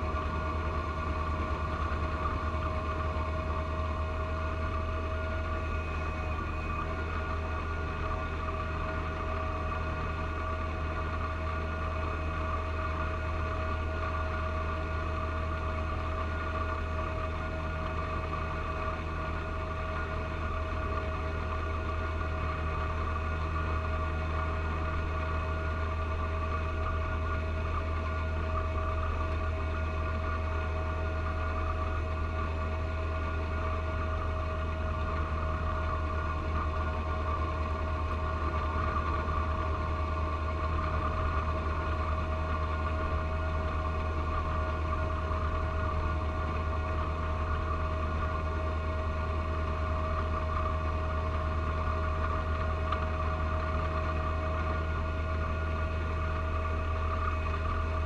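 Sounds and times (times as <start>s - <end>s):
tractor diesel engine drone: 0.0s - 58.0s.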